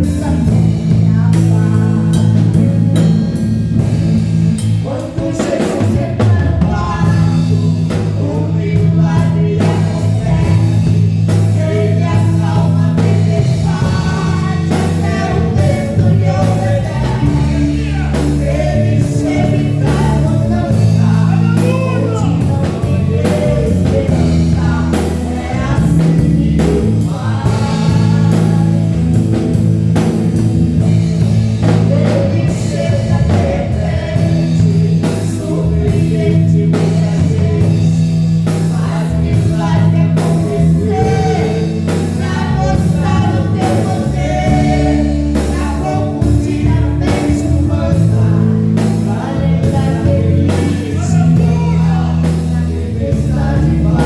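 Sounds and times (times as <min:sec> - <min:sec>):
gospel band playing: 0:00.0 - 0:54.0
lead singing voice: 0:00.0 - 0:54.0.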